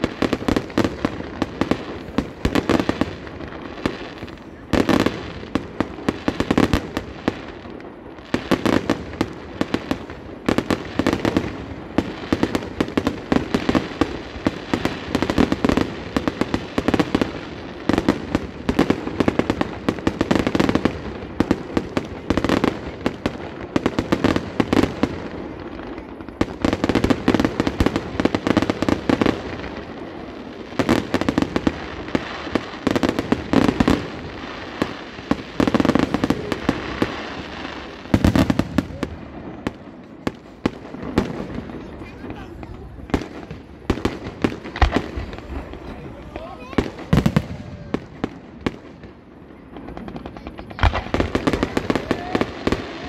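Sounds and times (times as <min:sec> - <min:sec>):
fireworks bangs and pops: 0:00.0 - 0:53.0.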